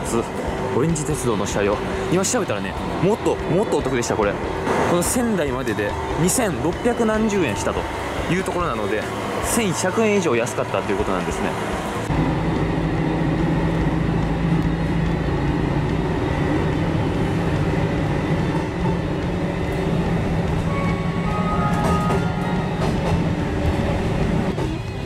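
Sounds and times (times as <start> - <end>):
diesel railcar engine hum: 0.0 - 25.0.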